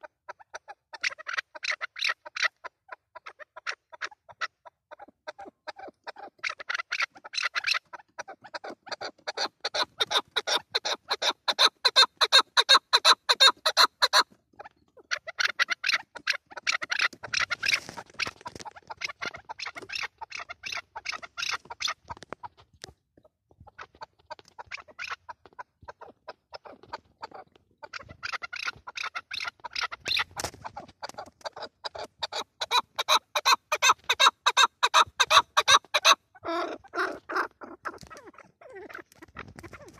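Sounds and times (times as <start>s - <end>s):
partridge clucking chatter: 0.0s - 39.9s.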